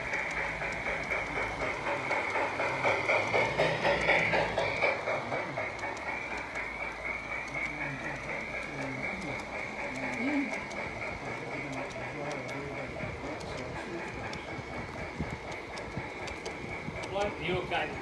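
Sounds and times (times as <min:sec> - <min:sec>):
model train wheels clicking: 0:00.0 - 0:18.0.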